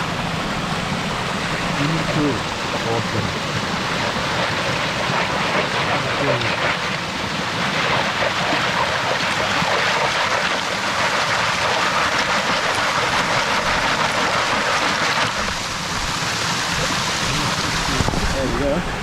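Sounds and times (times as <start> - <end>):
running splashing water: 0.0 - 19.0.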